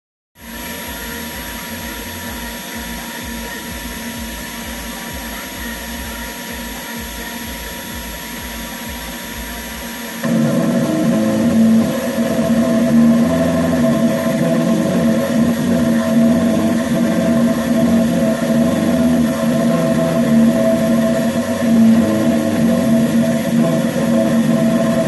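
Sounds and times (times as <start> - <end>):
loud pitched motor sound: 0.4 - 25.0
machine motors humming and whining: 0.4 - 25.0.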